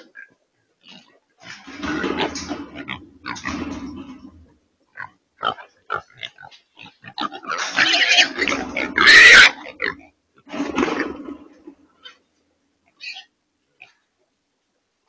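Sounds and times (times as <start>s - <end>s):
hogs grunting: 0.0s - 12.2s.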